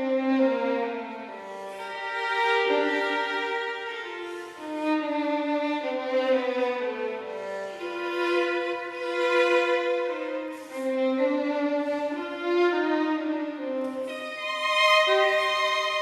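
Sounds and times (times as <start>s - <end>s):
slow violin melody: 0.0s - 16.0s.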